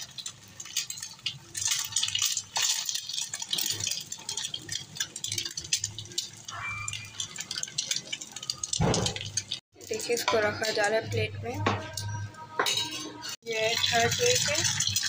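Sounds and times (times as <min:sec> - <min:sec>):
egg sizzling on griddle: 0:00.0 - 0:10.9, 0:13.3 - 0:15.0.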